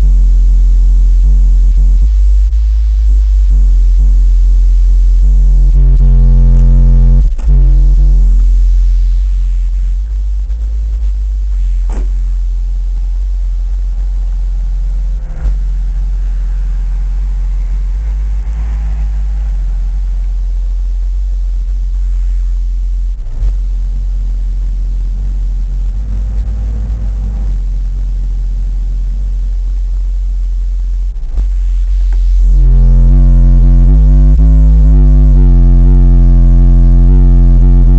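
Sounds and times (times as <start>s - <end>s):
deep subwoofer bass: 0.0s - 37.9s
muffled music from car: 0.0s - 37.9s.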